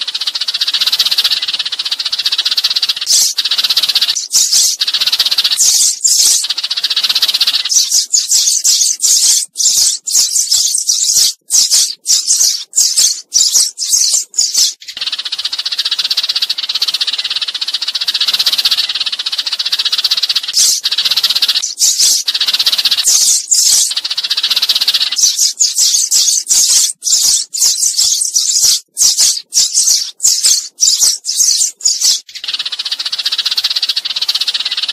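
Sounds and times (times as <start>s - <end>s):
flock of sparrows chirping: 0.0s - 34.9s.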